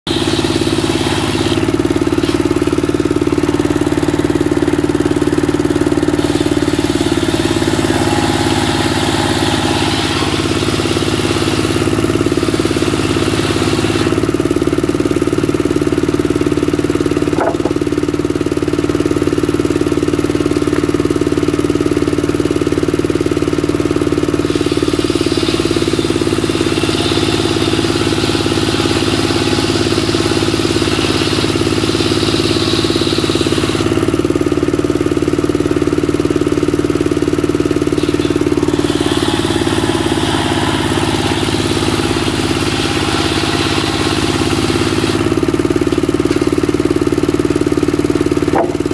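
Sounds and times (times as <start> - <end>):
diesel engine running: 0.0 - 48.9
circular wood saw: 0.1 - 18.2, 23.8 - 48.9.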